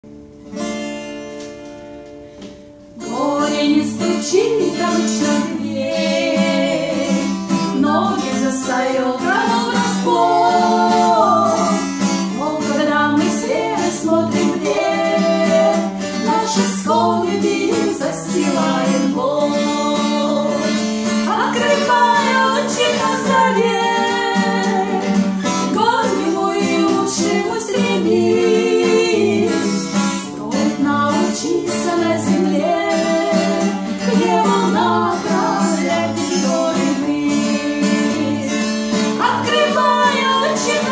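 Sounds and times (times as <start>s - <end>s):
strummed acoustic guitar: 0.1s - 40.9s
person singing: 3.0s - 40.9s.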